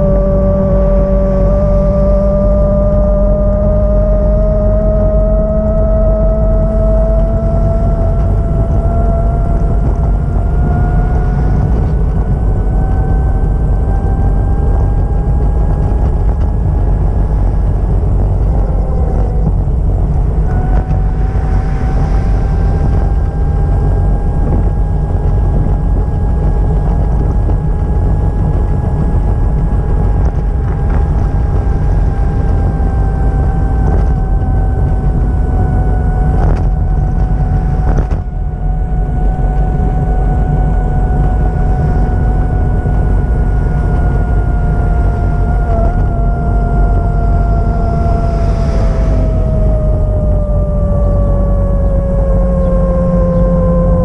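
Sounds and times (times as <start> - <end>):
steady whine: 0.0 - 54.0
vehicle engine rumbling: 0.0 - 54.0.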